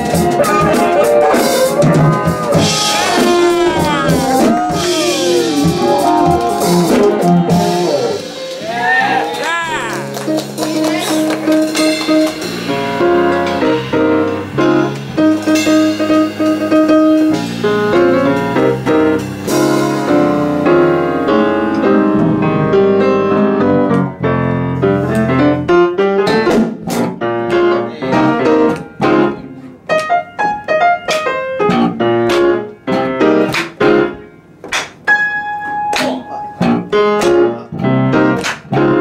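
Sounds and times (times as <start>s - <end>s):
grand piano playing: 0.0s - 39.0s.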